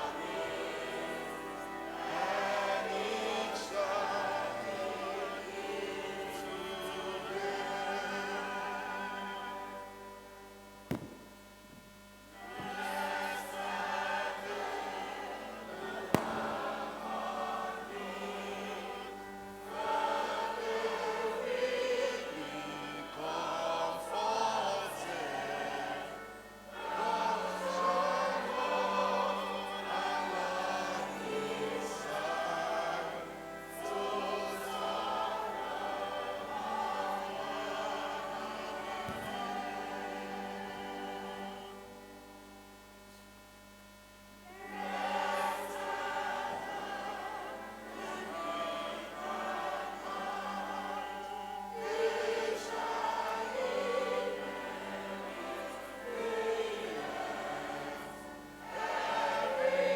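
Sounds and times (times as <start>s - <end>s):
church choir singing a hymn: 0.0s - 11.2s, 12.4s - 42.7s, 44.5s - 59.9s.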